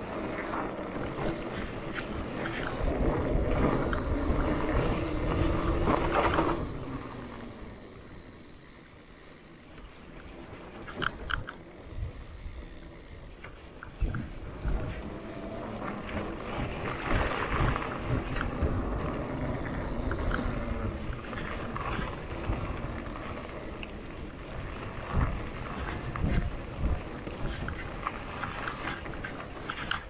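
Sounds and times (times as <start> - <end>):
wind on microphone: 0.0 - 8.4, 10.8 - 30.0
bike knocking and rattling: 0.0 - 30.0
bike tyres rolling over dirt: 0.0 - 30.0.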